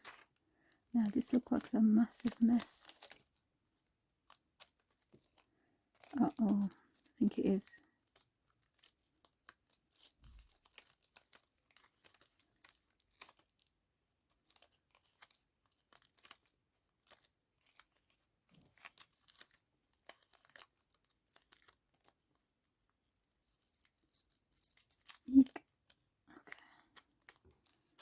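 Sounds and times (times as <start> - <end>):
paper crinkling and crackling: 0.0 - 28.0.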